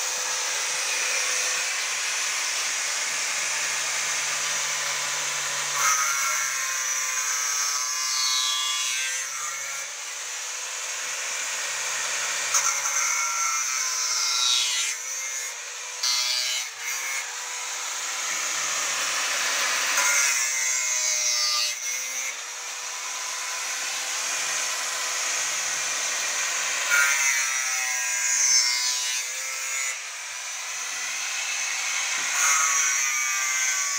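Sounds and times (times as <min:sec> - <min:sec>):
angle grinder cutting wood: 0:00.0 - 0:33.9.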